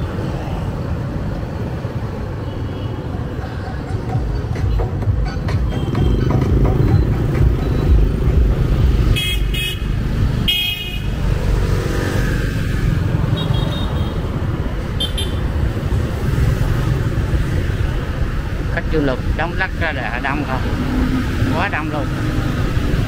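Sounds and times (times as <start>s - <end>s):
heavy street traffic: 0.0s - 23.0s.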